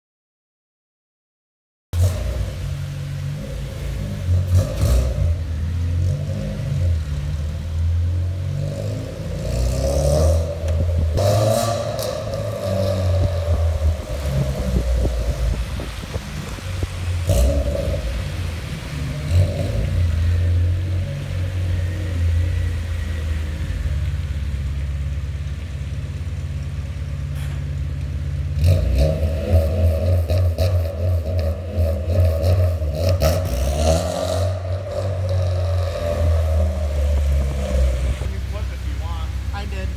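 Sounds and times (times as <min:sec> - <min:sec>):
car engine revving: 0:02.0 - 0:39.9.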